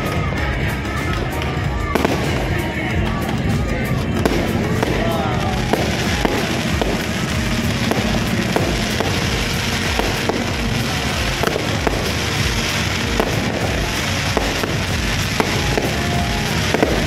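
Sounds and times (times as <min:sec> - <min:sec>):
fireworks bangs and pops: 0:00.0 - 0:17.0
fireworks crackling hiss: 0:00.0 - 0:17.0.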